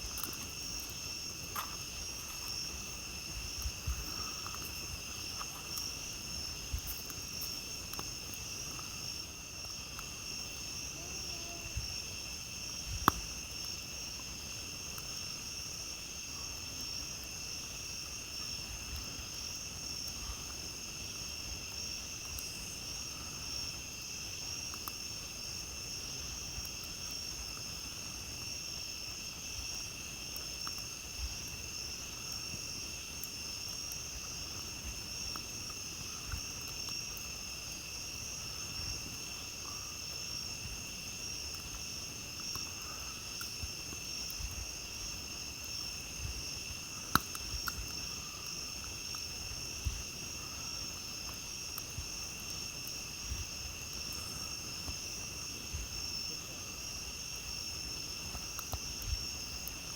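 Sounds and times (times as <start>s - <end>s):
campfire crackles: 0.0s - 59.9s
insect chorus trilling: 0.0s - 59.9s.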